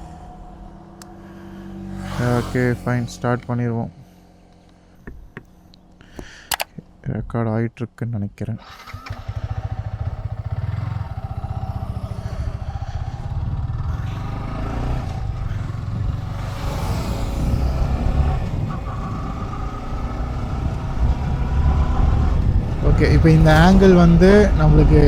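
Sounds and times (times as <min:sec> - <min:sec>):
motorcycle engine idling and revving: 0:00.0 - 0:06.7, 0:08.6 - 0:25.0.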